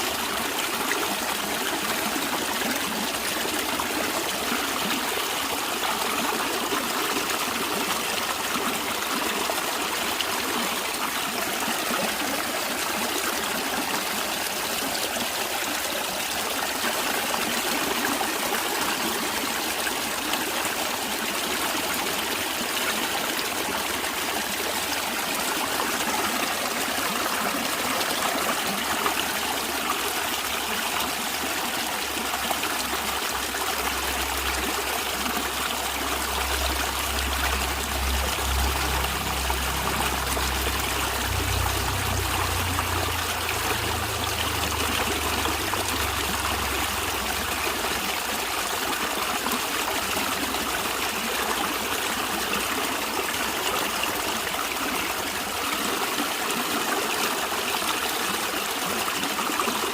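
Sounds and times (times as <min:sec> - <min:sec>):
stream of water trickling: 0:00.0 - 0:59.9.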